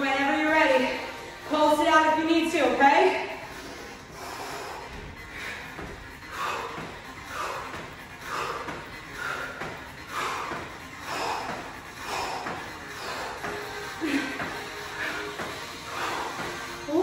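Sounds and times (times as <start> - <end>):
woman breathing hard: 3.3 - 17.0.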